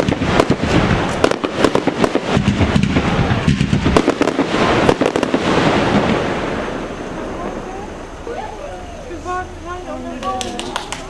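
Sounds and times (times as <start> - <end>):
fireworks bangs and crackles: 0.0 - 11.0
low rolling rumble: 0.0 - 11.0.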